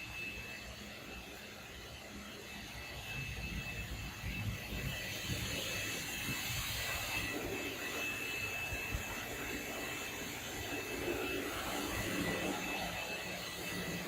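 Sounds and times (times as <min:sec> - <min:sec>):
boiler burner roaring: 0:00.0 - 0:14.0
high steady whine: 0:00.0 - 0:14.0.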